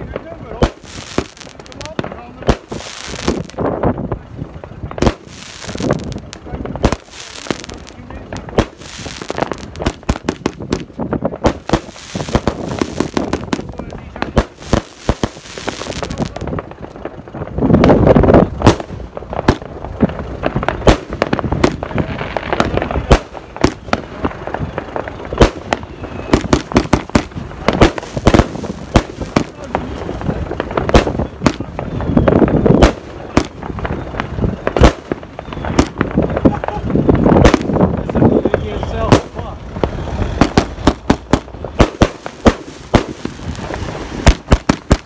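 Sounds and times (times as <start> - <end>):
firework bangs: 0.0 - 45.0
firework crackle and rumble: 0.0 - 45.0.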